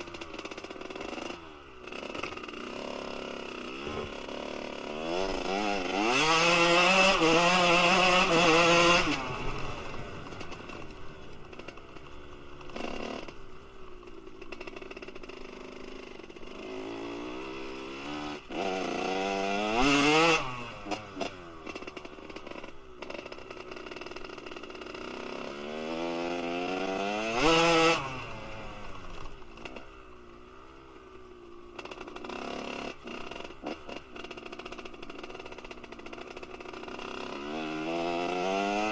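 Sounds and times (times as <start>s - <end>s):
two-stroke engine revving: 0.0s - 29.9s, 31.6s - 38.9s.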